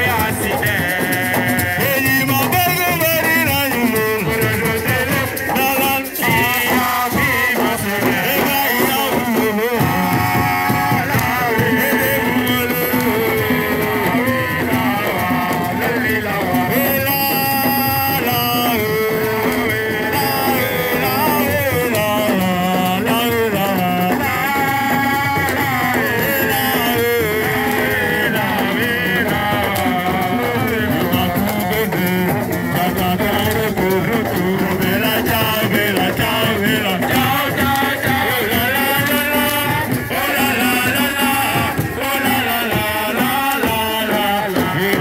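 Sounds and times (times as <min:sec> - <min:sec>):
song with vocals and drums: 0:00.0 - 0:45.0.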